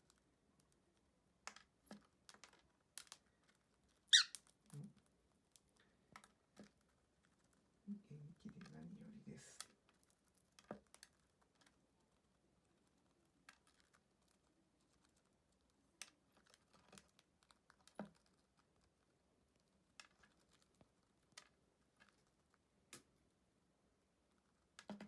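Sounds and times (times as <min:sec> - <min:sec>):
faint small clicks and taps: 0:00.0 - 0:07.7, 0:09.6 - 0:23.4, 0:24.3 - 0:25.0.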